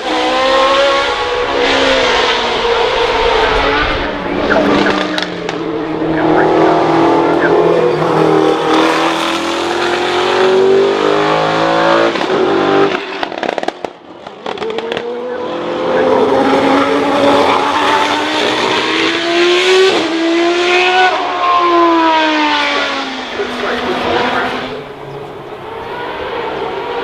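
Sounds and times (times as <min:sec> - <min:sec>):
engine crackles: 0:00.0 - 0:20.0, 0:20.8 - 0:27.0
racing car engines revving: 0:00.0 - 0:27.0.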